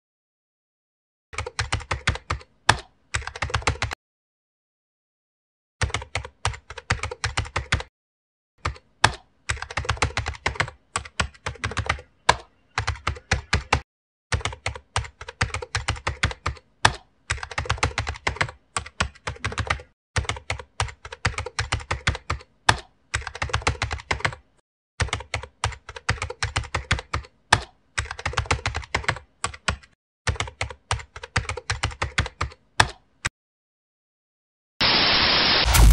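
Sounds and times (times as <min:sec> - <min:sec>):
typing on computer keyboard: 0:01.4 - 0:04.0, 0:05.8 - 0:07.9, 0:08.6 - 0:33.0.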